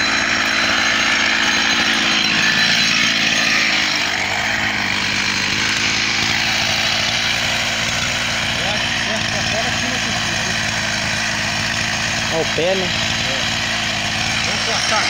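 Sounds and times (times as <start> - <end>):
chainsaw running at low speed: 0.0 - 15.0.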